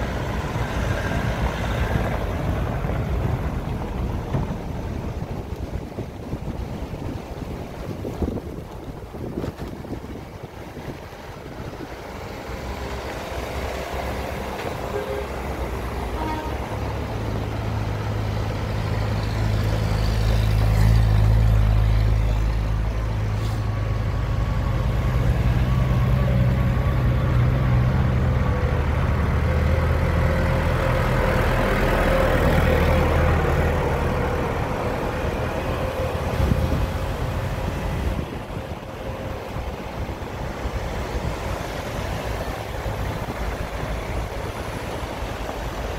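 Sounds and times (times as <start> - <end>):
engine hum: 0.0 - 45.9.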